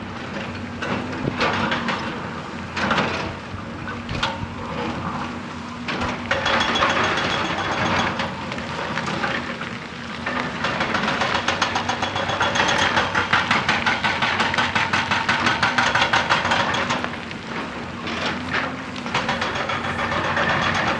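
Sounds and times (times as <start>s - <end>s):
diesel engine running: 0.0s - 20.9s
hydraulic rock breaker hammering: 0.2s - 9.6s, 10.2s - 20.9s.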